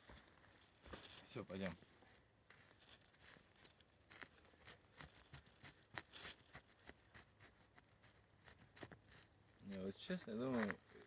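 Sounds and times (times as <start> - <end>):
faint crunches and rustles: 0.0 - 11.0.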